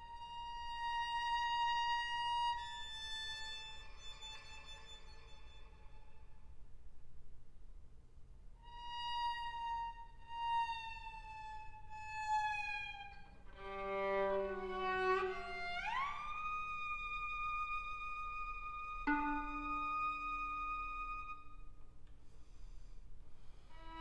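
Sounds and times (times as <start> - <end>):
solo violin playing: 0.0 - 6.5, 8.7 - 21.7, 23.7 - 24.0.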